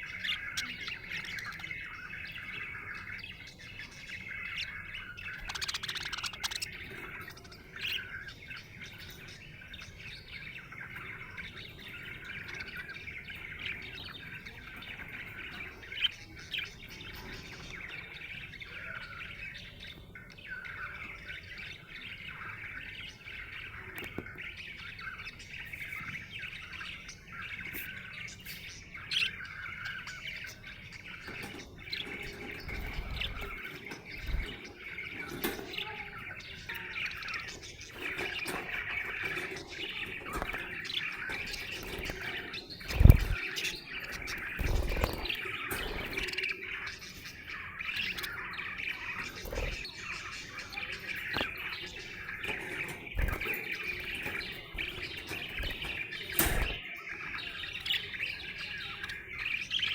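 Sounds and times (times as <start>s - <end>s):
budgerigar chirping and warbling: 0.0s - 16.4s, 25.0s - 59.9s.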